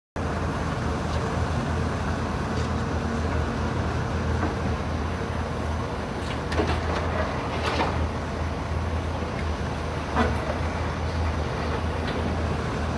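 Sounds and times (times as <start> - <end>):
heavy diesel engine running: 0.2 - 12.9.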